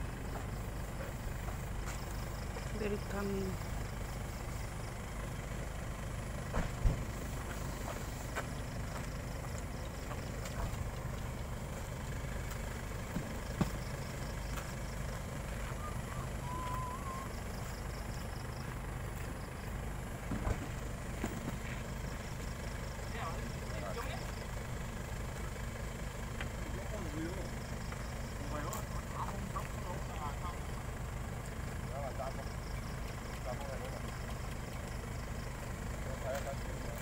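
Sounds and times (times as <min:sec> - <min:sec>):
distant road traffic rumble: 0:00.0 - 0:37.0.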